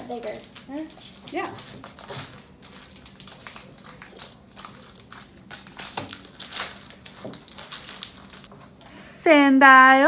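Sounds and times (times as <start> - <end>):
wrapper crinkling: 0.0 - 8.5.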